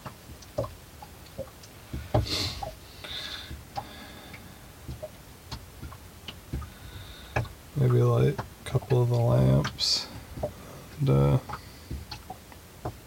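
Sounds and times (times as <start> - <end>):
light ticks and taps: 0.0 - 13.0.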